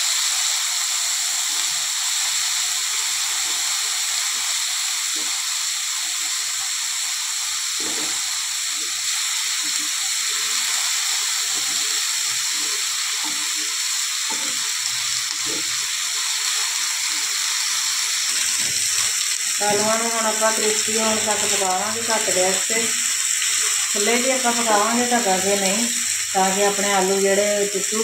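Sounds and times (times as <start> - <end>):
potatoes sizzling in frying oil: 0.0 - 28.0.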